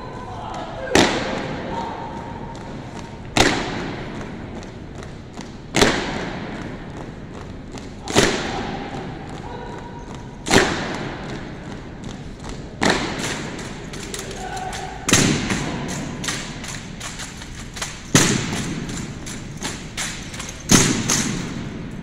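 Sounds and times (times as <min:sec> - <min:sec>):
rifle drill unison impacts echoing: 0:00.8 - 0:22.0.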